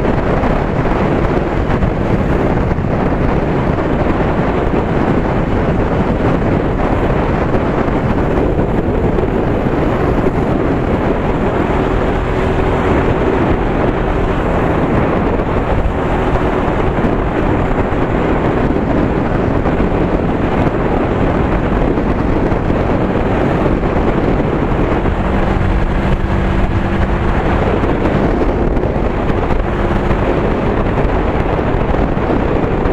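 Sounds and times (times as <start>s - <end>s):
road and vehicle noise: 0.0s - 32.9s
wind rushing over microphone: 0.0s - 32.9s.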